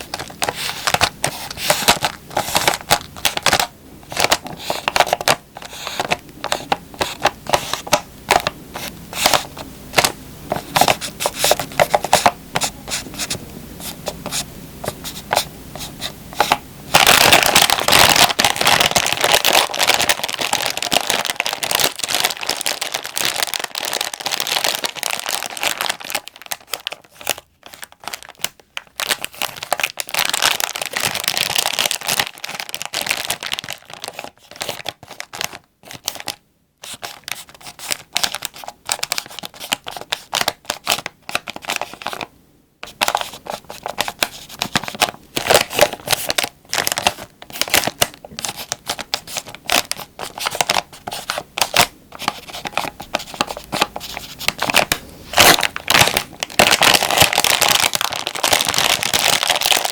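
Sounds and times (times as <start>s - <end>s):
plastic wrapper crinkling: 0.0s - 59.9s.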